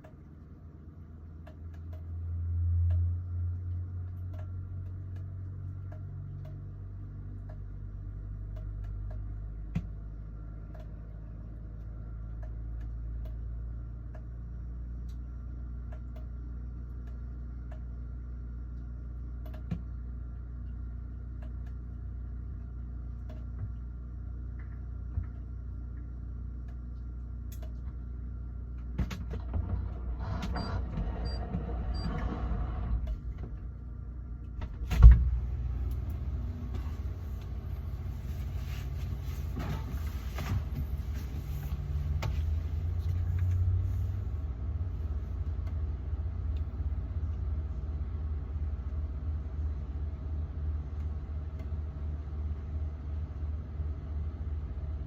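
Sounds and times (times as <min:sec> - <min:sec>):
refrigerator humming: 0:00.0 - 0:55.0.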